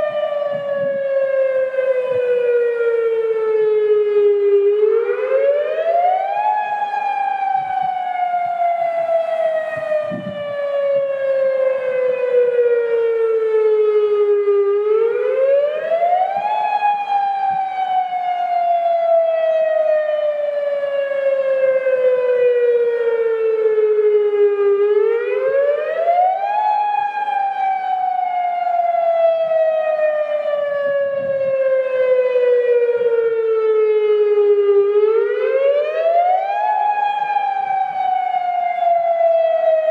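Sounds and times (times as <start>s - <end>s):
electronic siren wailing: 0.0s - 39.9s.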